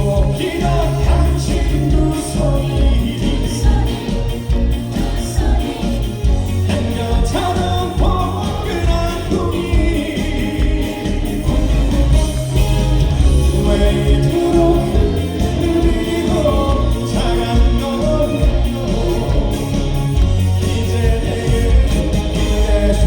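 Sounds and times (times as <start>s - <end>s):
live band with singing: 0.0s - 23.0s.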